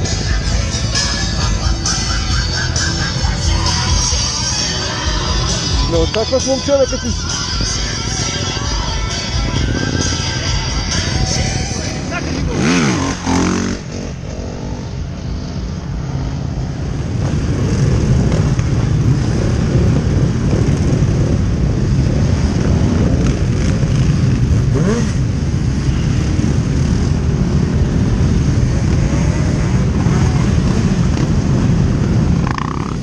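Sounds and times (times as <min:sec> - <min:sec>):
motorcycle engine revving: 0:00.0 - 0:33.0
motorcycle engines running: 0:00.0 - 0:33.0.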